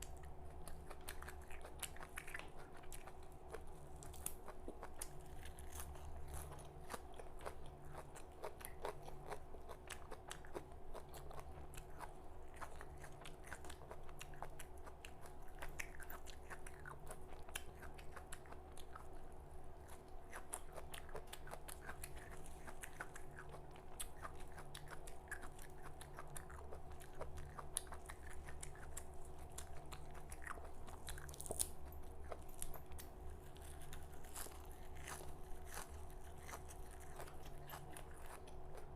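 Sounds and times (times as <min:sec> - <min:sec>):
person chewing raw vegetables: 0:00.0 - 0:38.9
steady low hum: 0:00.0 - 0:38.9.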